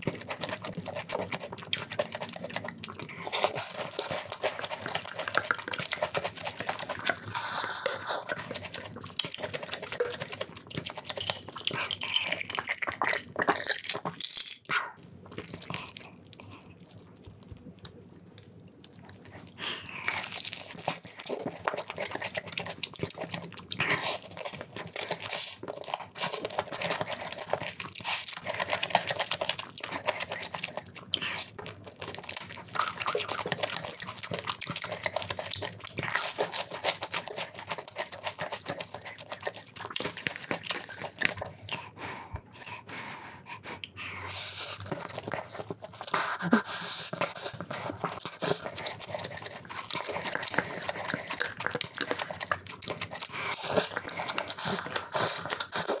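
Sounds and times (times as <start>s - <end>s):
crunching and chewing fried chicken: 0.0s - 56.0s
wet mouth sounds: 0.0s - 56.0s.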